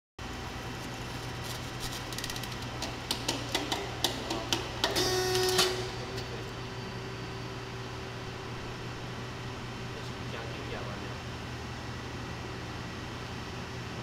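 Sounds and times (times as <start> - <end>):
machine whirring and humming: 0.2 - 14.0.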